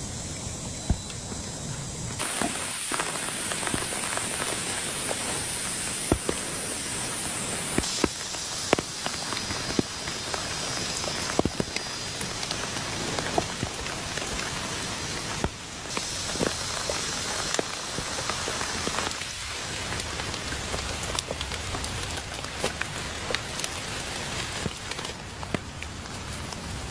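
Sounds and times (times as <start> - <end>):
heavy rain falling: 2.2 - 26.9.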